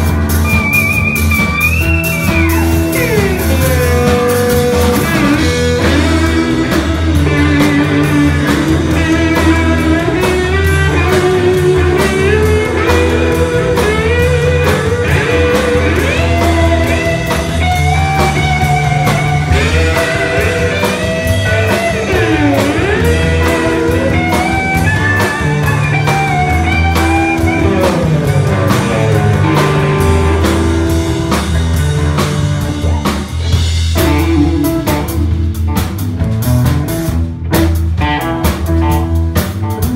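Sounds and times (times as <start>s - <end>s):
bass guitar: 0.0s - 39.9s
drums: 0.0s - 39.9s
electric guitar solo: 0.0s - 39.9s.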